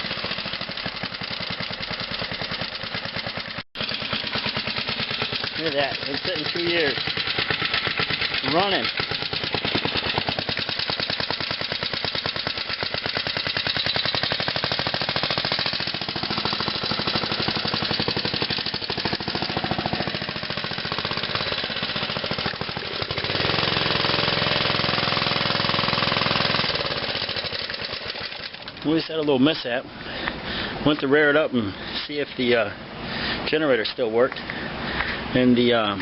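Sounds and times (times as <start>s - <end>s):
mini bike engine chugging: 0.0s - 29.6s.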